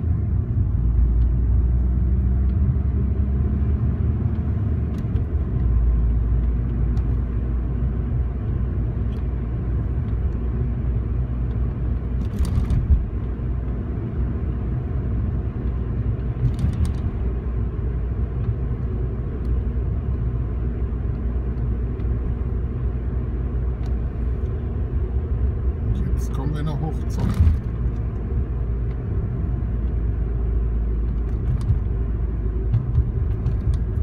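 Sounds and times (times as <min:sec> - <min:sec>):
engine and tyre rumble in car: 0:00.0 - 0:34.0.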